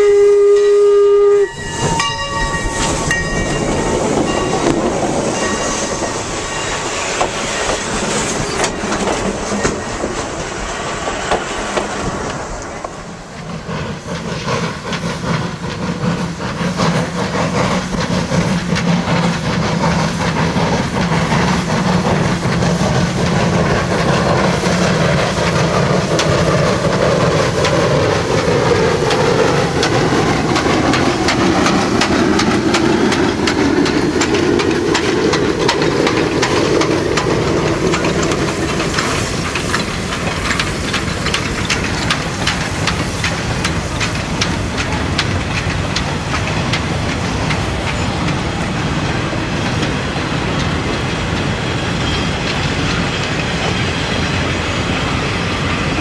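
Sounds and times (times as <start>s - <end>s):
steam locomotive approaching: 0.0s - 56.0s
train wheels clattering over rails: 1.5s - 56.0s.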